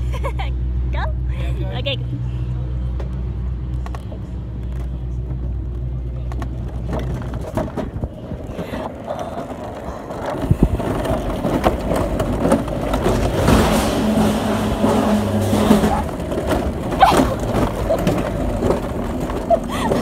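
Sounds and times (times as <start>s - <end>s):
running gear hum: 0.0s - 20.0s
sled wheels rumbling on steel rail: 3.0s - 20.0s.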